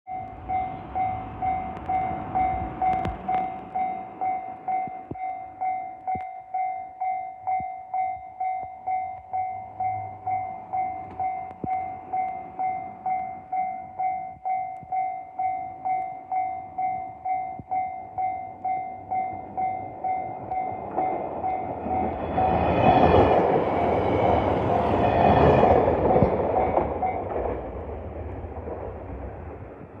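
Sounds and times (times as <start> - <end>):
railcar passing: 0.1 - 5.9, 8.4 - 14.2, 15.0 - 30.0
level crossing warning bell: 0.1 - 27.9.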